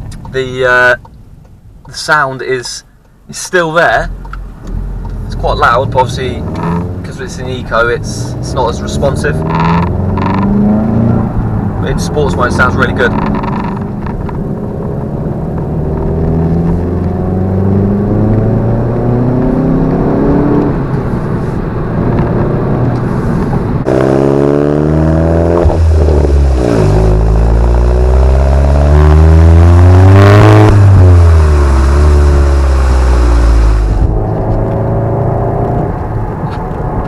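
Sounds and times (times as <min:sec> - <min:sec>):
car engine revving: 0:03.4 - 0:37.0.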